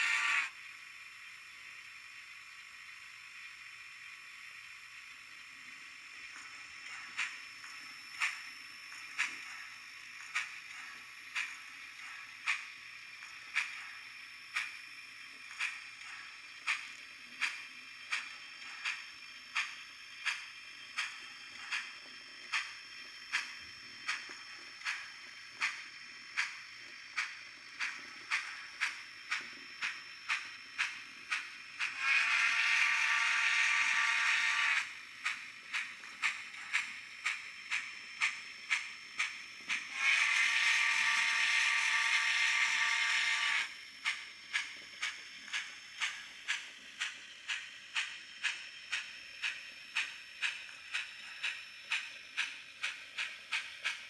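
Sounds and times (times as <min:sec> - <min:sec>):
steam exhaust chuffs: 0:00.0 - 0:00.6, 0:01.6 - 0:54.0.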